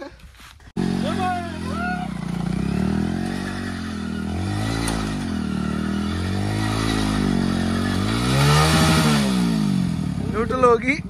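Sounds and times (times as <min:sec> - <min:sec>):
motorcycle engine revving: 0:00.7 - 0:11.0.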